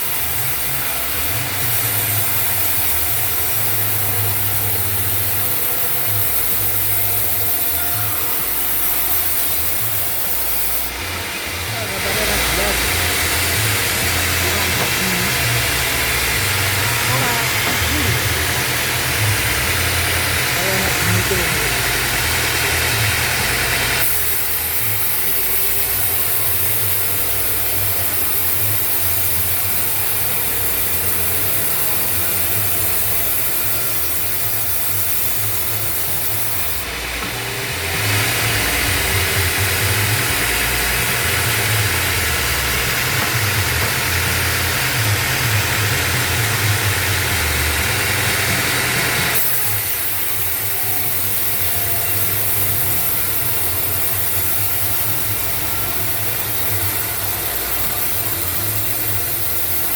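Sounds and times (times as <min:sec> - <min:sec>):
mill drive running: 0:00.0 - 0:59.9
saw blade cutting wood: 0:00.0 - 0:59.9.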